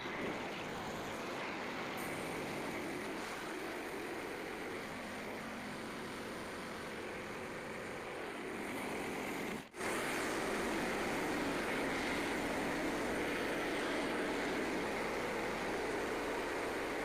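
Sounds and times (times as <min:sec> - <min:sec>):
band sawmill running: 0:00.0 - 0:17.0.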